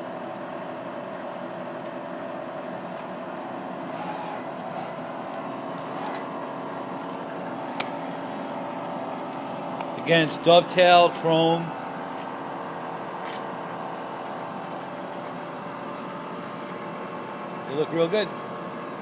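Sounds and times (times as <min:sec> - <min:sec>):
milling machine humming: 0:00.1 - 0:19.0.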